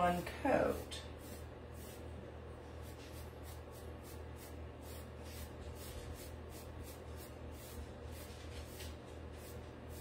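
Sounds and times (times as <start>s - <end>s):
foam brush swishing on wood: 0.6s - 10.0s.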